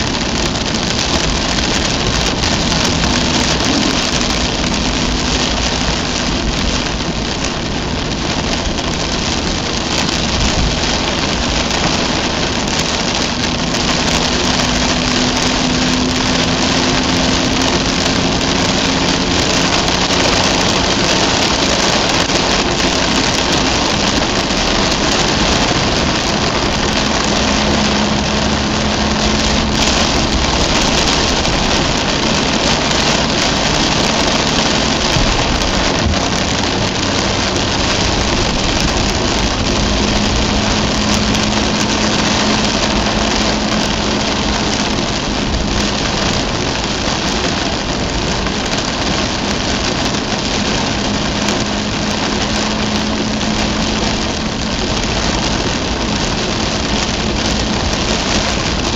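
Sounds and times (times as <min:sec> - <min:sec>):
car engine humming: 0:00.0 - 0:58.9
heavy rain on car roof: 0:00.0 - 0:58.9
tyres on wet road: 0:00.0 - 0:58.9.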